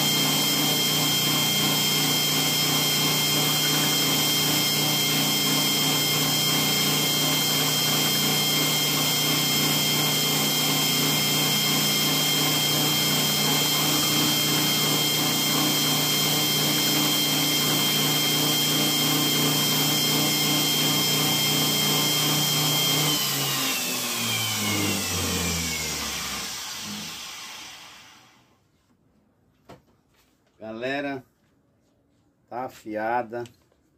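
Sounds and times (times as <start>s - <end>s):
grinder winding down: 0.0s - 28.5s.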